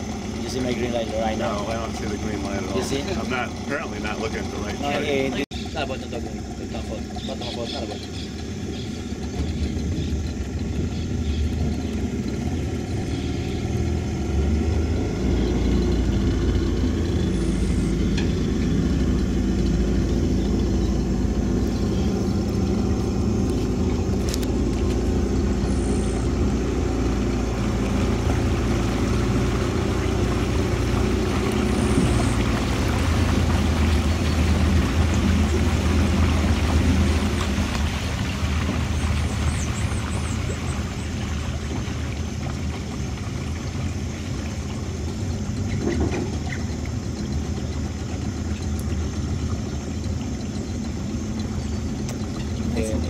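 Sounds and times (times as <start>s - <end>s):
boat motor droning: 0.0s - 53.0s
water rushing past hull: 0.0s - 53.0s.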